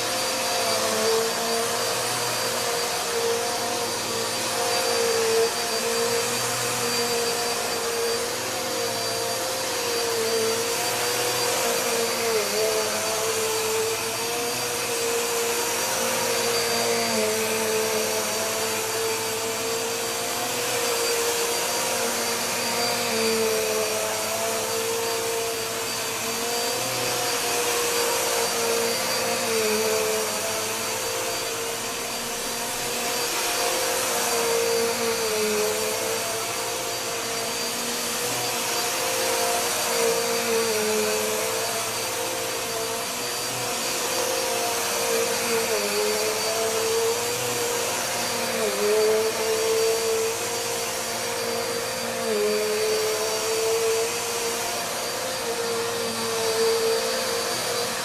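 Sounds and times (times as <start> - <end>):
vacuum cleaner on carpet: 0.0 - 58.0.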